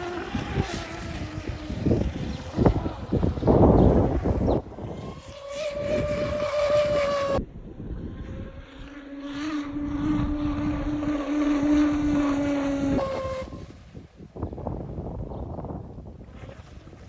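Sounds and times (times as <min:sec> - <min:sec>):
hull and spray noise: 0:00.0 - 0:07.4, 0:08.2 - 0:14.6
electric motor whine: 0:00.0 - 0:13.7.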